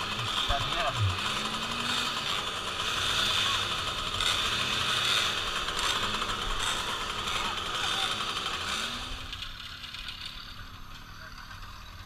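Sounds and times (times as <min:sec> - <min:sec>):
moped engines buzzing: 0:00.0 - 0:12.0.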